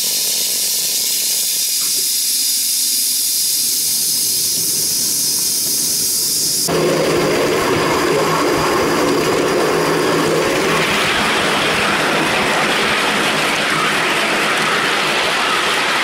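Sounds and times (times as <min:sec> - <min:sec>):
model steam locomotive running: 0:00.0 - 0:16.0.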